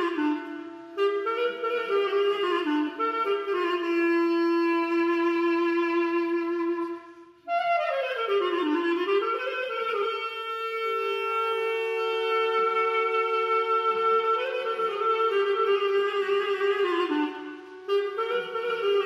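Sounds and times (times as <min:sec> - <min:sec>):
instrumental melody of held notes: 0:00.0 - 0:19.0.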